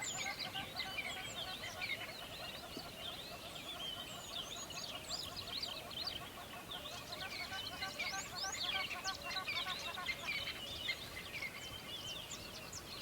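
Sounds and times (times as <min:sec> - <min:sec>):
many birds chirping: 0:00.0 - 0:13.0.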